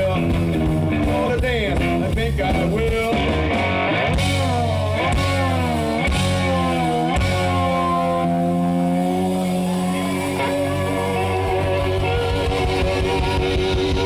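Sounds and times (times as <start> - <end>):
blues rock band playing: 0.0 - 14.0
electric guitar bending notes: 0.0 - 14.0.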